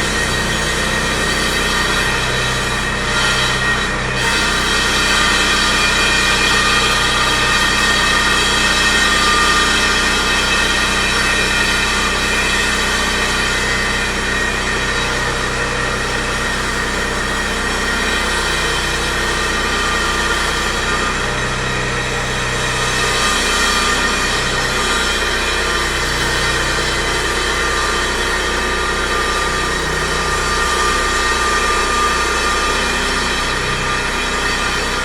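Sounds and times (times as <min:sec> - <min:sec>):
construction machinery engine whine: 0:00.0 - 0:35.0.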